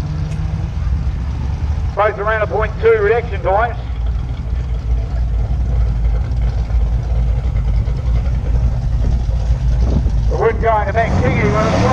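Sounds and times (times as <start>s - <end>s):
drag racing car engines rumbling: 0.0s - 11.9s.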